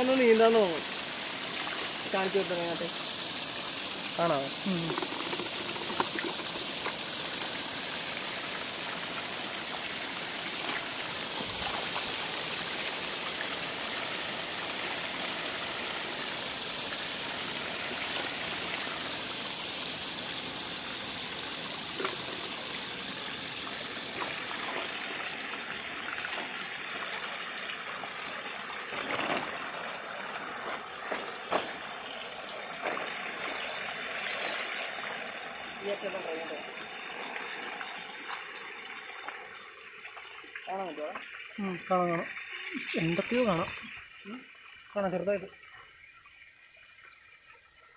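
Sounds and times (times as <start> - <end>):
water gushing into pond: 0.0 - 47.9.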